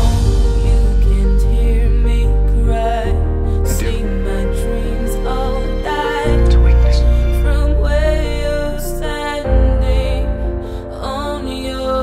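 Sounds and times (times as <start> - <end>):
deep steady bass: 0.0 - 11.6
song with long held notes: 0.0 - 12.0.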